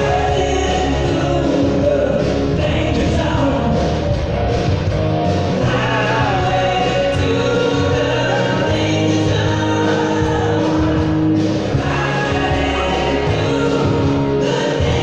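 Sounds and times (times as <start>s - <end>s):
music with a singer: 0.0s - 15.0s.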